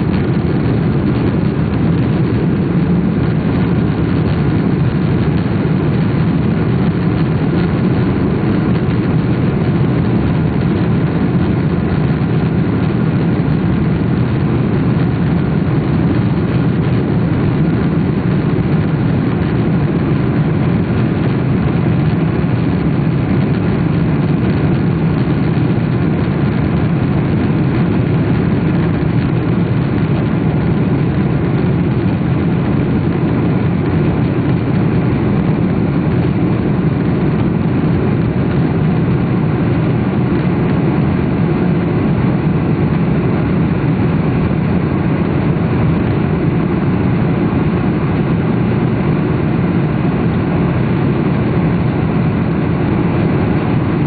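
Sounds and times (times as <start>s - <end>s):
jet airliner cabin drone: 0.0s - 54.0s.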